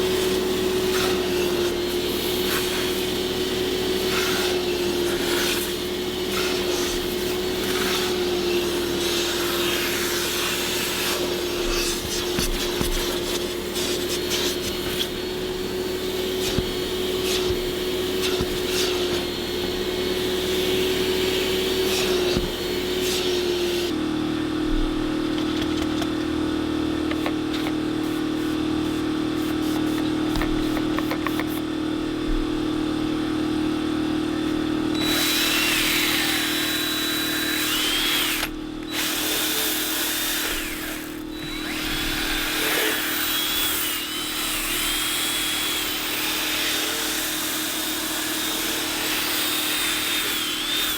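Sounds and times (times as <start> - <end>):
cleaning machine motor running: 0.0 - 50.9.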